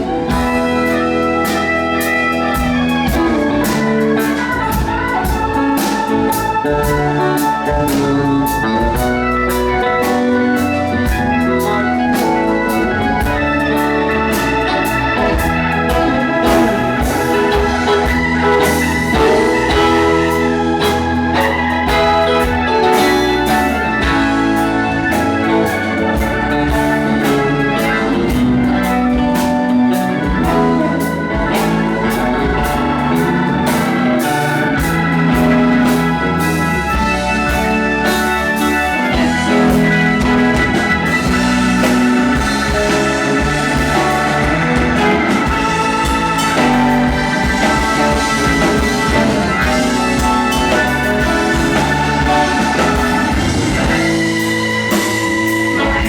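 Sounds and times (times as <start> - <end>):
live rock band playing: 0.0 - 56.0
organ sustaining chords: 0.0 - 56.0.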